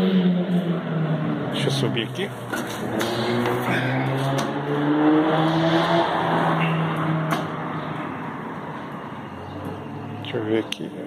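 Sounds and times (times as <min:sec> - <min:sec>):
vehicle engine passing by: 0:00.0 - 0:10.5.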